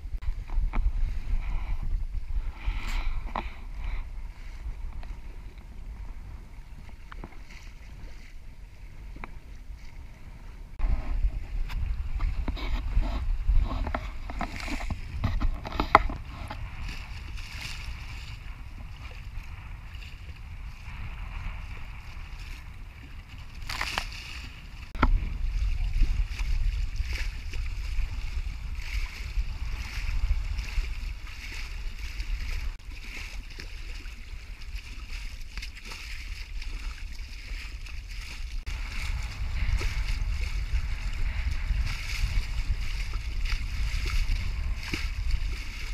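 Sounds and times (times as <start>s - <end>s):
water splashing along hull: 0.0s - 45.9s
wind buffeting microphone: 0.0s - 45.9s.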